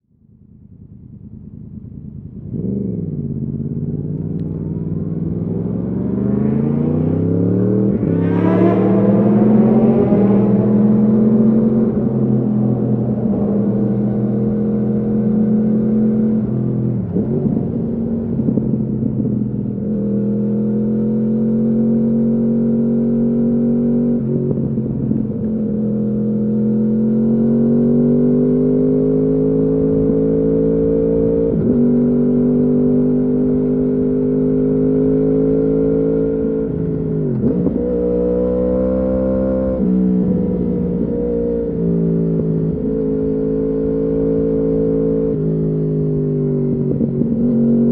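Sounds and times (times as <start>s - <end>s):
motorcycle engine revving under load: 1.8s - 47.9s.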